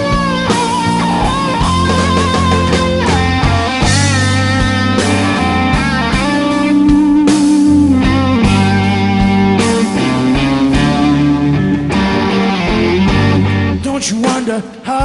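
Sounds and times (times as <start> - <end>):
electric guitar leading: 0.0 - 14.6
bass: 0.0 - 15.0
drums: 0.0 - 15.0.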